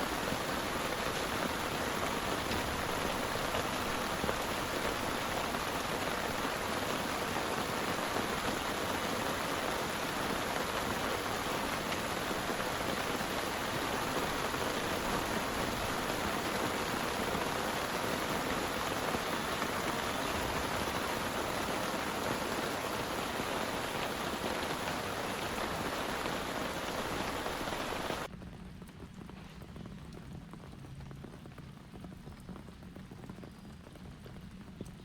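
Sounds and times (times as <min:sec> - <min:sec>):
heavy rain pouring: 0:00.0 - 0:28.3
scattered raindrops pattering: 0:00.0 - 0:35.0.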